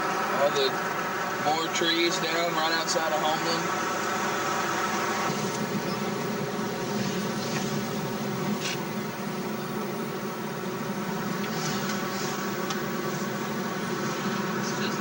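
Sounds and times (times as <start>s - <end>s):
car cabin engine and road hum: 0.0s - 15.0s.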